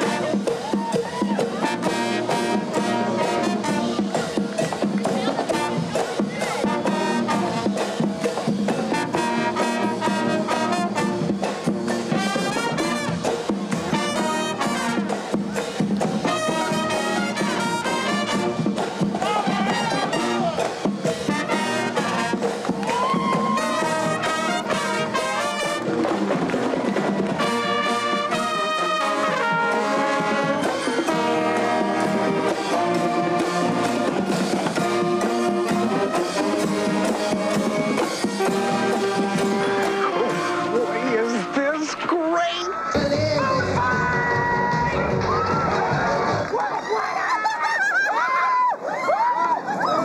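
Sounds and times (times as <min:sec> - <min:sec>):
marching band brass: 0:00.0 - 0:46.6.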